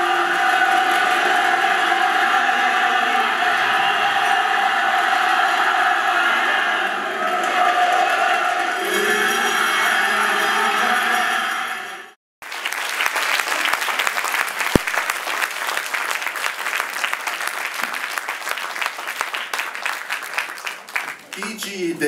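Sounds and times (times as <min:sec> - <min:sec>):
audience applauding: 0:00.0 - 0:11.7, 0:12.4 - 0:22.0.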